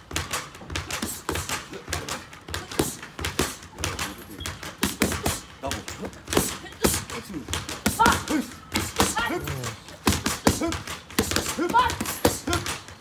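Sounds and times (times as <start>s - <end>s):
boxing gloves smacking focus mitts: 0.0s - 13.0s.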